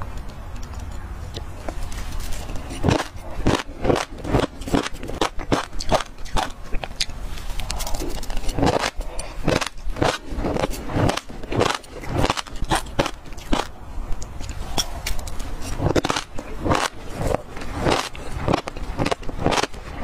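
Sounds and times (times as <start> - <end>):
seeds crunching while chewed: 0.6 - 20.0.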